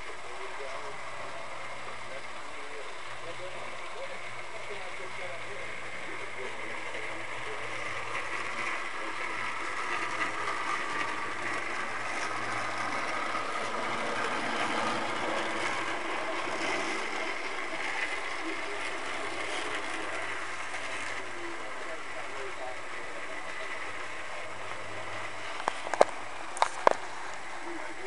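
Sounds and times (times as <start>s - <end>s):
low hum: 0.0s - 28.0s
model train motors whirring: 0.0s - 28.0s.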